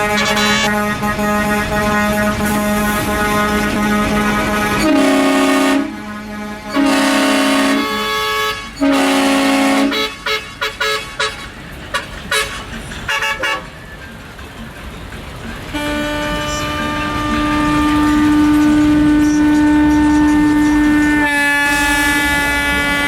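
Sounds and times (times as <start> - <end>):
truck horn blasts: 0.0 - 13.7, 15.7 - 23.0.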